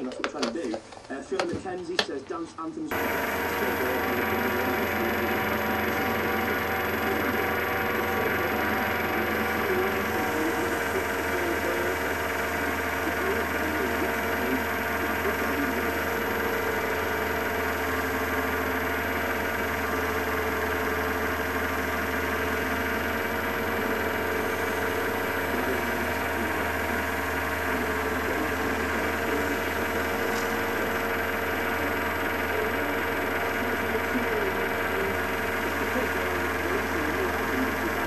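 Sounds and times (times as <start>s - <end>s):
wood lathe motor humming: 2.9s - 38.0s.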